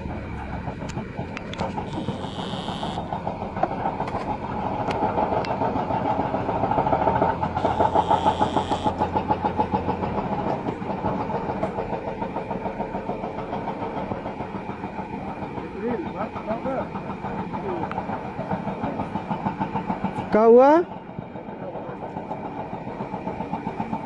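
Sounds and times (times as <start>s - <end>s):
excavator diesel engines throbbing: 0.0s - 24.0s.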